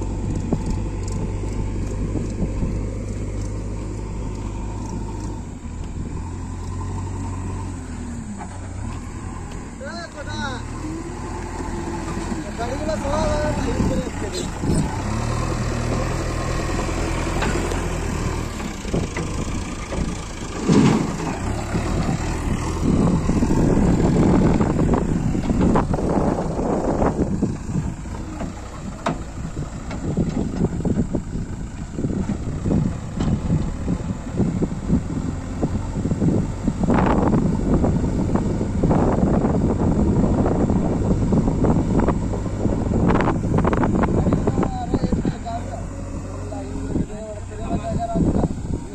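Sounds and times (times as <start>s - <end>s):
wind buffeting microphone: 0.0s - 7.4s, 11.1s - 48.9s
backhoe diesel engine under load: 0.0s - 48.9s
tractor diesel engine idling: 0.0s - 48.9s.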